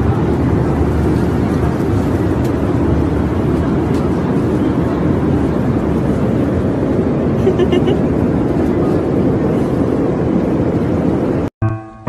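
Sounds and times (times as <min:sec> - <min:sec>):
airliner cabin low rumble: 0:00.0 - 0:11.5.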